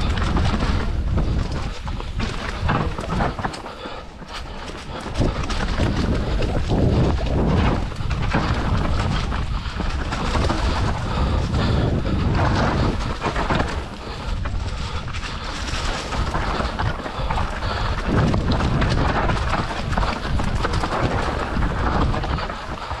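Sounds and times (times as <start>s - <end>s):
bike rattles and knocks: 0.0s - 23.0s
bike tyres rolling over earth: 0.0s - 23.0s
wind rumble on microphone: 0.0s - 23.0s.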